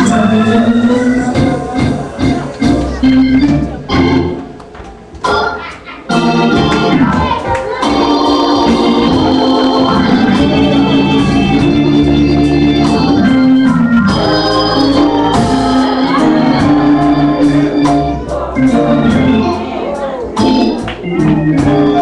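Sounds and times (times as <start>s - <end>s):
organ playing sustained chords: 0.0s - 4.6s, 6.1s - 22.0s.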